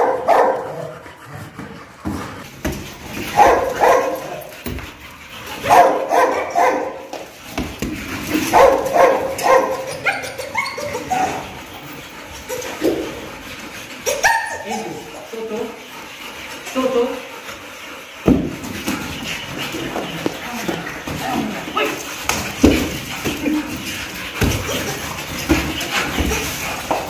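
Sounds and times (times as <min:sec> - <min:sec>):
dogs barking: 0:00.0 - 0:01.0, 0:03.1 - 0:27.0.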